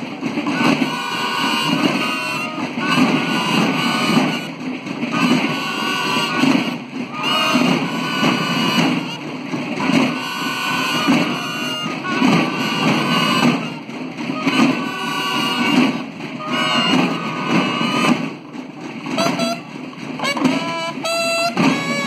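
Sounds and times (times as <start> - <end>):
marching drums: 0.0 - 22.0
bugles sounding held notes: 0.5 - 18.3, 19.1 - 22.0.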